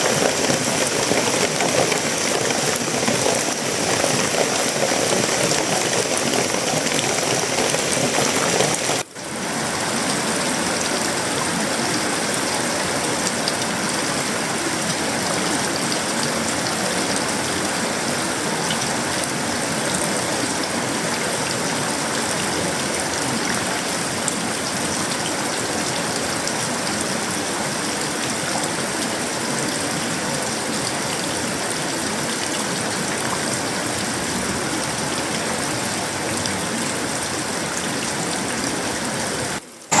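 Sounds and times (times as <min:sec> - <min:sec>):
heavy rain on metal roof: 0:00.0 - 0:40.0.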